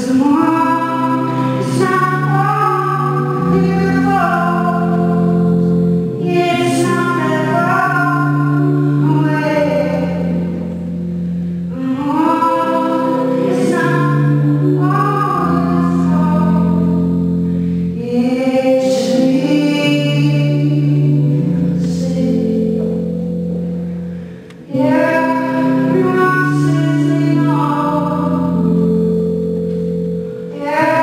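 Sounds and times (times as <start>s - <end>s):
woman singing: 0.0s - 23.7s, 24.6s - 31.0s
accompaniment chords: 0.0s - 31.0s.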